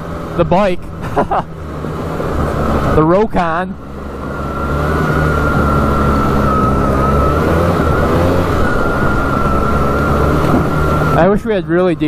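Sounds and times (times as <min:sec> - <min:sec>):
atv engine running: 0:00.0 - 0:12.0
high whine: 0:00.0 - 0:12.0.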